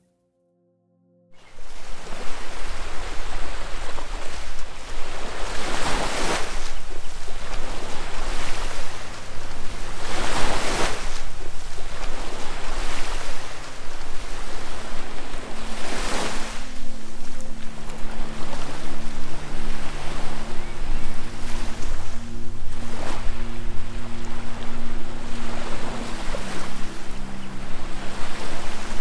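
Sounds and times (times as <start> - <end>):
surf washing on beach: 1.4 - 29.0
waves breaking: 1.4 - 29.0.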